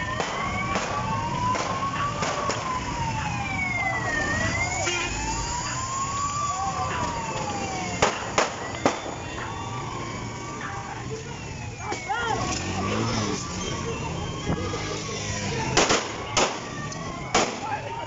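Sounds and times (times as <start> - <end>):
motorcycle engine rumble: 0.0 - 18.0
police siren wailing: 0.0 - 18.0.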